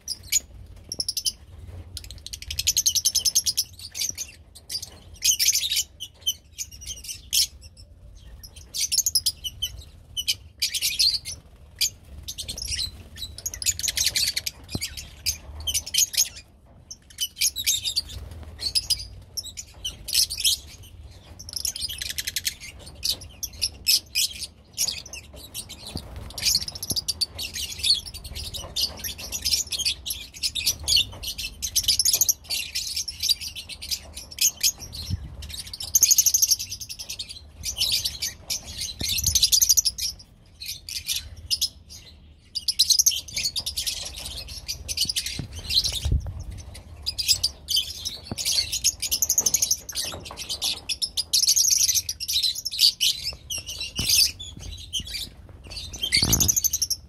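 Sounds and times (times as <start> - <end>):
lovebirds twittering: 0.0 - 57.0.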